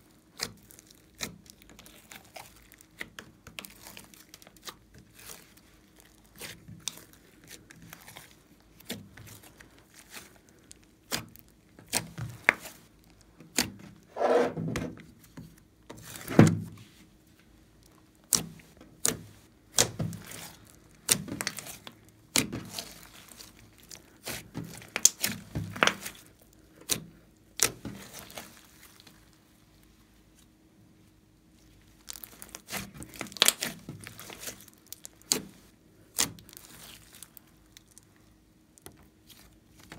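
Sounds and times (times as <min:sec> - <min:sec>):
slime squelching: 0:00.0 - 0:30.5, 0:31.1 - 0:39.9.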